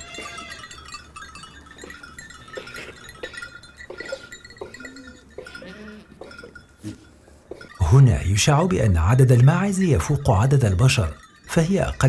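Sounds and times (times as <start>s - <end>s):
goats moving about: 0.0s - 12.0s
light clinking and tinkling: 0.0s - 12.0s.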